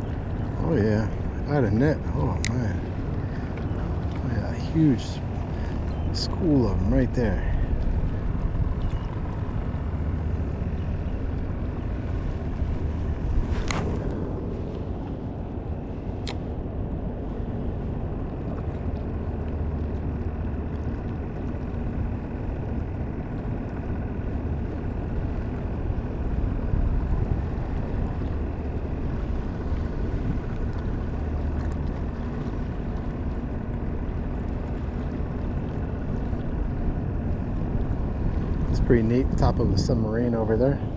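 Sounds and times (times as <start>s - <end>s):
boat motor running: 0.0s - 40.9s.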